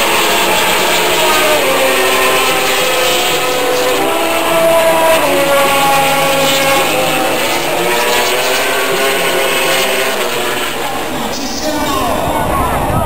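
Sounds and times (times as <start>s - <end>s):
motorcycle engines passing: 0.0s - 13.0s.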